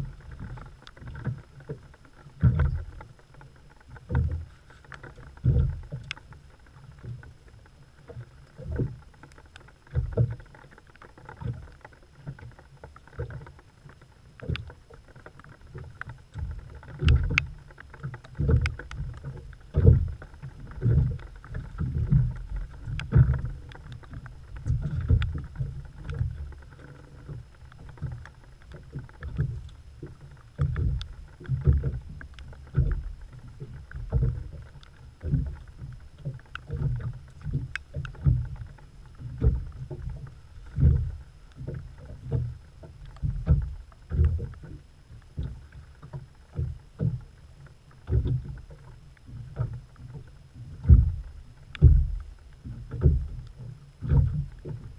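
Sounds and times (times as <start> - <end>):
water slapping boat hull: 0.0 - 54.9.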